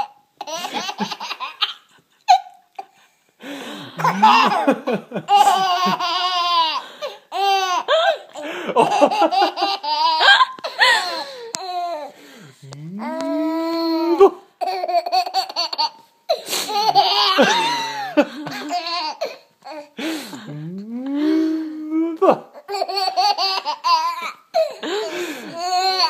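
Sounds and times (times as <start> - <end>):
baby laughing: 0.0 - 3.0, 4.0 - 12.1, 13.7 - 19.9, 22.2 - 26.0.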